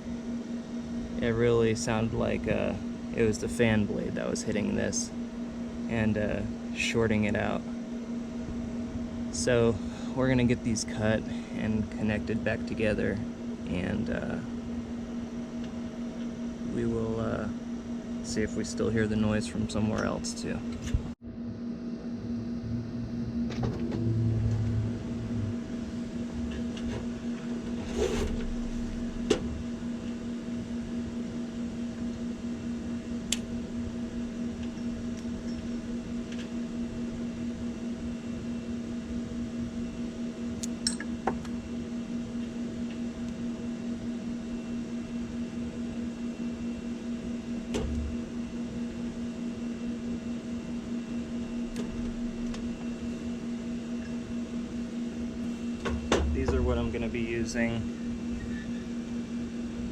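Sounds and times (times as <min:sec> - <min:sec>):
air conditioner electrical hum: 0:00.0 - 0:59.9.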